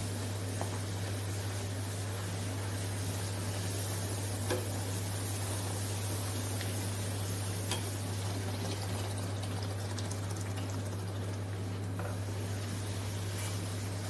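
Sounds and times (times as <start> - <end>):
bread deep-frying in hot oil: 0.0 - 14.0.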